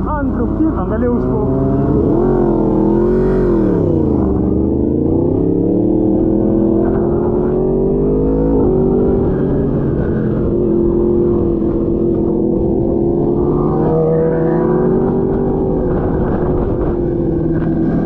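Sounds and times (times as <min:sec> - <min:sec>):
motorcycle engine revving: 0:00.0 - 0:18.0
wind rumbling on microphone: 0:00.0 - 0:18.0.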